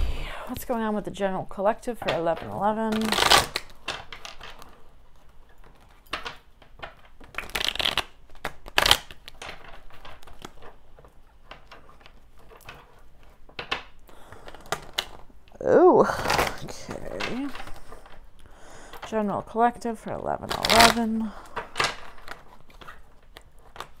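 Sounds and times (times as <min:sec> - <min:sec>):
cards being shuffled: 0:02.0 - 0:24.0.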